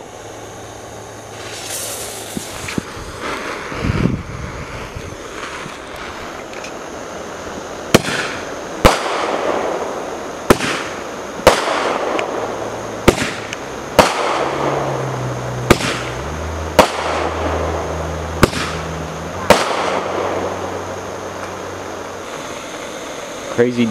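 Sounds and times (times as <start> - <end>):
rushing hiss: 0.0 - 23.9.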